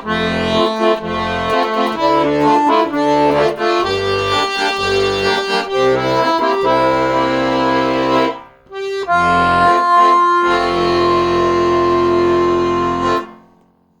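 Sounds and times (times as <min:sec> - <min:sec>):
accordion playing: 0:00.0 - 0:13.6.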